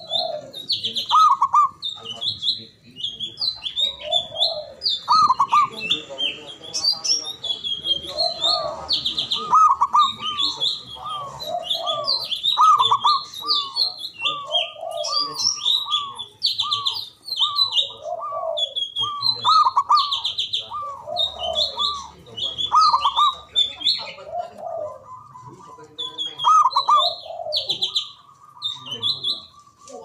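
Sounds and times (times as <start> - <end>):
dove cooing: 0.0 - 30.0
small birds chirping: 0.0 - 30.0.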